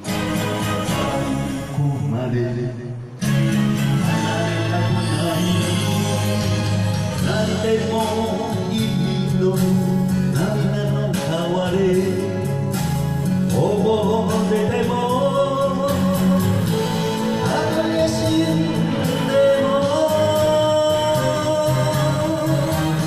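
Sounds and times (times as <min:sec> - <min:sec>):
karaoke backing track: 0:00.0 - 0:23.0
man singing into microphone: 0:00.9 - 0:23.0.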